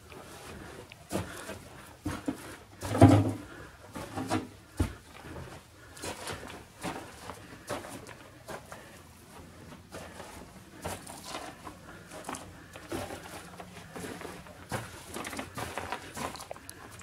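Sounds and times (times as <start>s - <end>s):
footsteps over debris: 0.0s - 17.0s.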